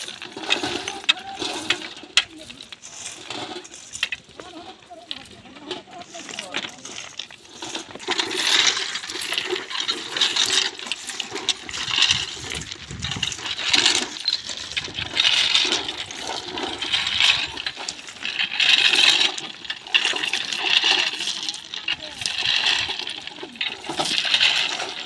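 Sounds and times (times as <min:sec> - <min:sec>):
rake scraping stones crunching: 0:00.0 - 0:25.0.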